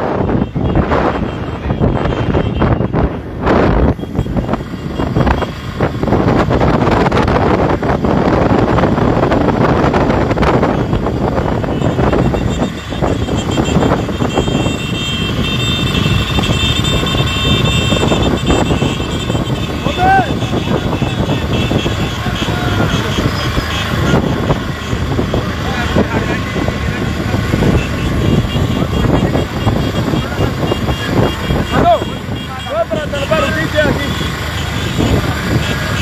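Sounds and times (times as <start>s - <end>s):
motorcycle engines running: 0.0s - 36.0s
vehicle engine noise: 0.0s - 36.0s
wind noise: 0.0s - 36.0s.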